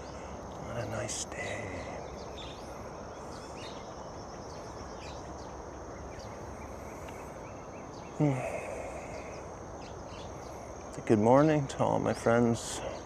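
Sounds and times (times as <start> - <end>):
bird chirps: 0.0 - 13.0
faint high-pitched hiss: 0.0 - 13.0.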